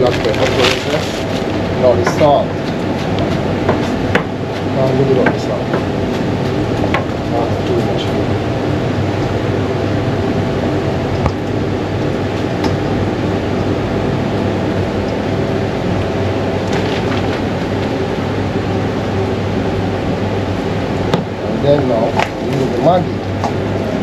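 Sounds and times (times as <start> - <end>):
ventilation fan humming: 0.0 - 24.0.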